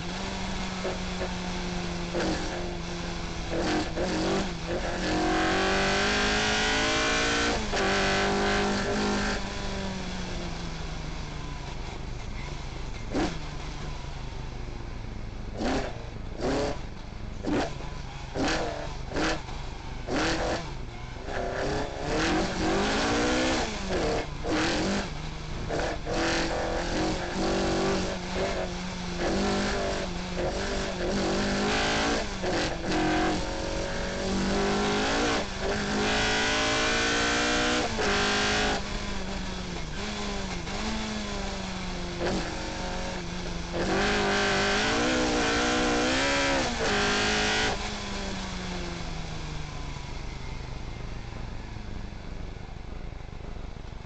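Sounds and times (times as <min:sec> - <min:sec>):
rally car engine revving: 0:00.0 - 0:50.6.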